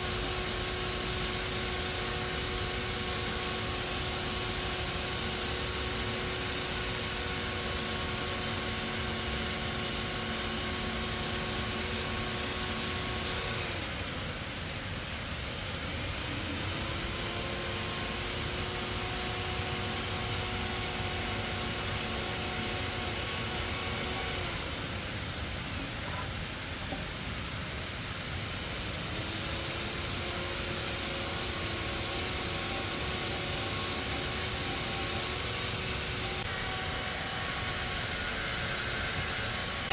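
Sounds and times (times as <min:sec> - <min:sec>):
motor running with a hiss: 0:00.0 - 0:39.9.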